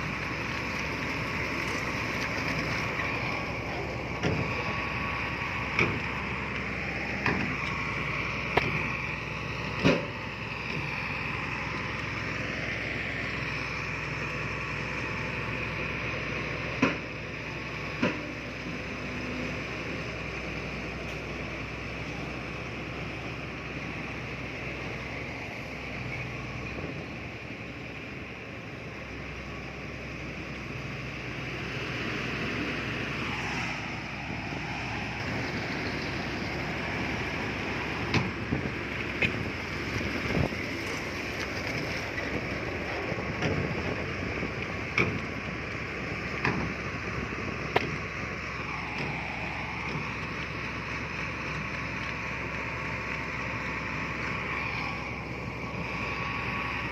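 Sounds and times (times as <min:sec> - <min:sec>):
diesel engine of heavy machinery: 0:00.0 - 0:56.9.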